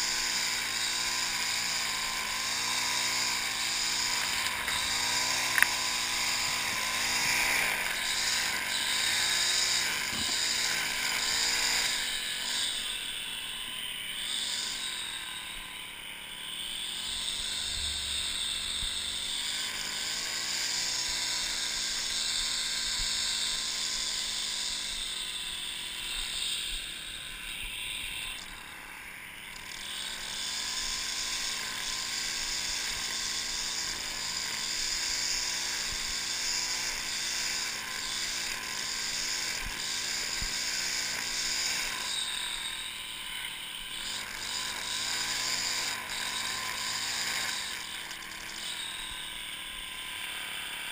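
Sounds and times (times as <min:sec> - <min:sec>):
string trimmer cutting grass: 0:00.0 - 0:50.9.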